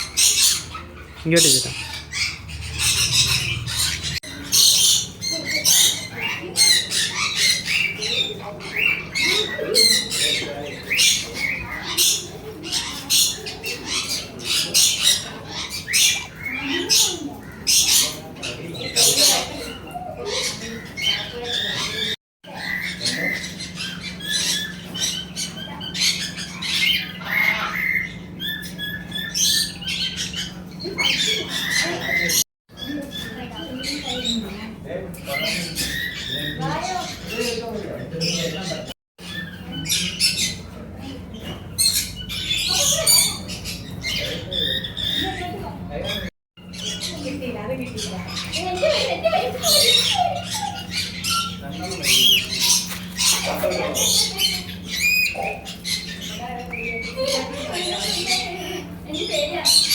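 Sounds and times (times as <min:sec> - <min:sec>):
small birds chattering: 0:00.0 - 0:59.9.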